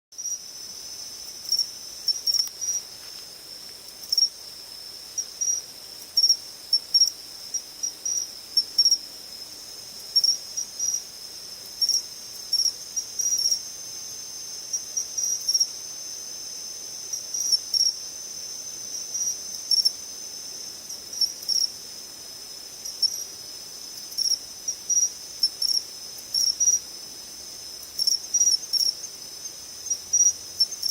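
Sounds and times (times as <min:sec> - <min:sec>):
insect short chirps: 0:00.2 - 0:21.9, 0:22.6 - 0:26.8
insect high trill: 0:00.2 - 0:30.9.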